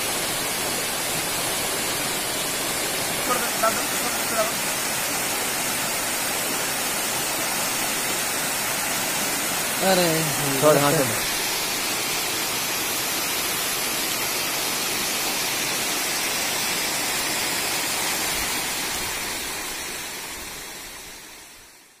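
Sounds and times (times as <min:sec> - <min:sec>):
water rushing over rocks: 0:00.0 - 0:21.4.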